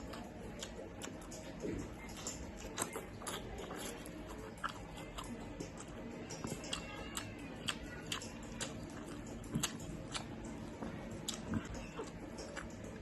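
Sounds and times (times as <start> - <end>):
low steady hum: 0.0 - 13.0
person chewing food: 0.0 - 13.0.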